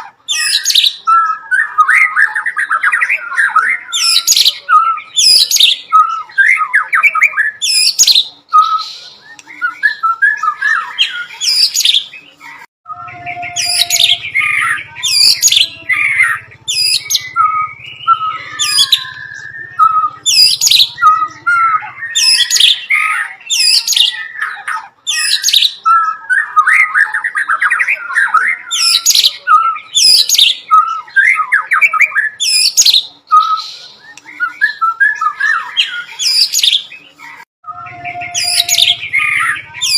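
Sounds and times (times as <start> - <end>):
bird singing whistles and chirps: 0.3 - 39.9.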